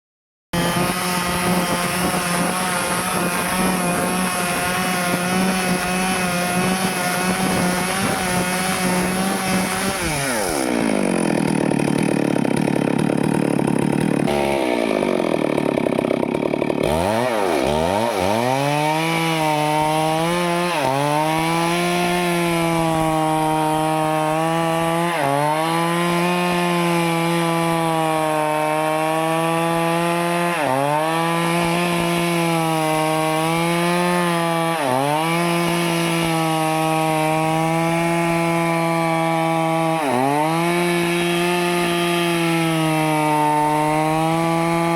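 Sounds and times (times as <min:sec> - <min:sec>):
chainsaw cutting wood: 0:00.6 - 0:44.9.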